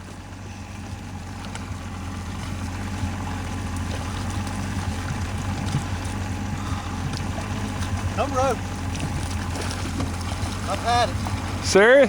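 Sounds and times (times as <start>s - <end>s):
boat engine humming: 0.0s - 12.0s
water noise: 0.0s - 12.0s.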